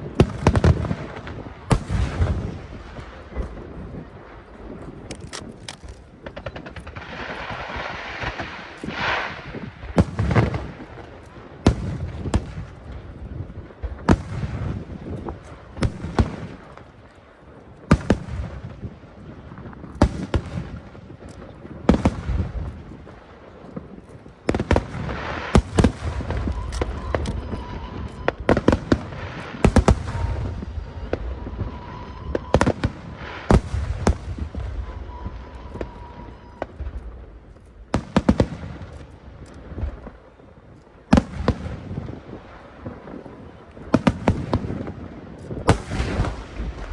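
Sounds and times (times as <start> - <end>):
fireworks bursting with loud bangs: 0.0 - 46.9
fireworks crackling: 0.0 - 46.9.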